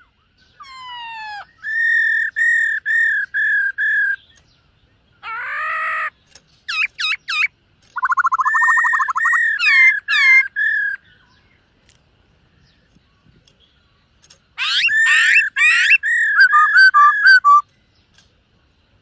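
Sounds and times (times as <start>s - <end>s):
bird singing whistles and trills: 0.0s - 11.7s, 12.6s - 18.2s.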